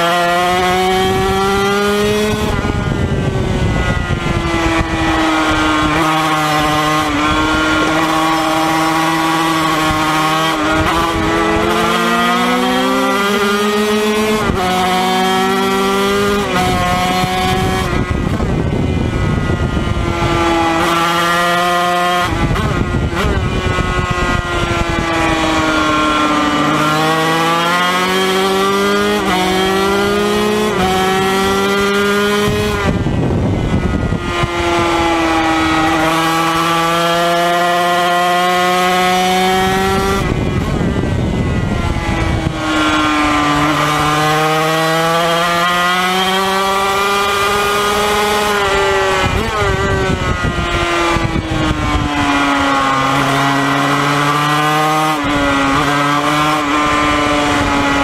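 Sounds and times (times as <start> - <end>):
racing engine at full throttle: 0.0 - 58.0.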